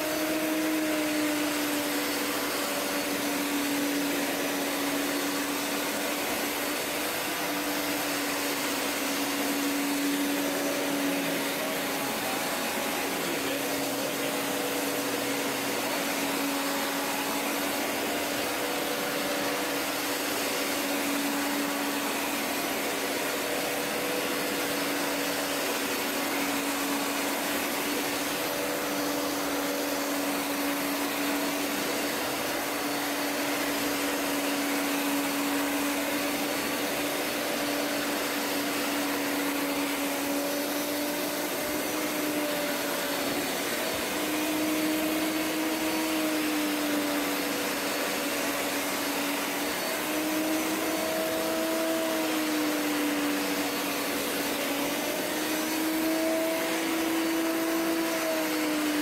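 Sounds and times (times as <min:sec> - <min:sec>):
carpet cleaner motor whine: 0:00.0 - 0:59.0.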